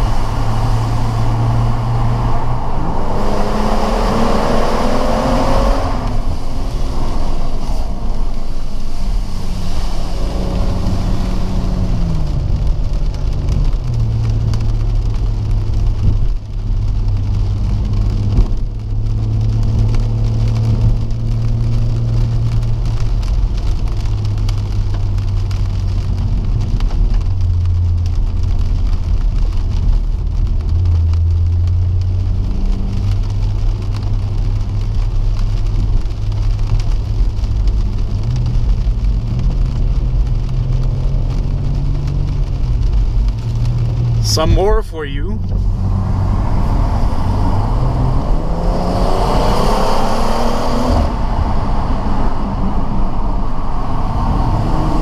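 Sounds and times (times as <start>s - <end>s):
car engine from inside cabin: 0.0s - 55.0s
tyres hissing on wet road: 0.0s - 55.0s.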